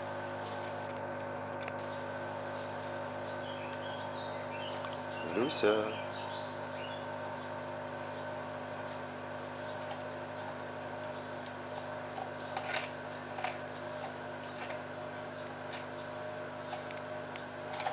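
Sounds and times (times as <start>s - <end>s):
steady mechanical hum: 0.0s - 17.9s.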